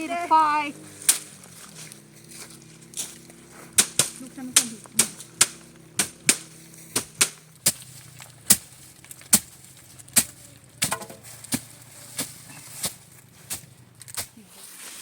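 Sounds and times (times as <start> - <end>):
dry stalks snapping when cut: 0.9 - 14.4.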